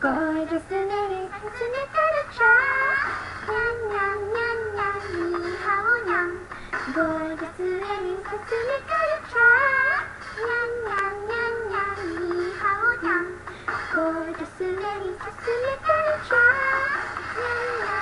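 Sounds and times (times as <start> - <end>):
light backing music: 0.0 - 18.0
woman singing pop song: 0.0 - 18.0.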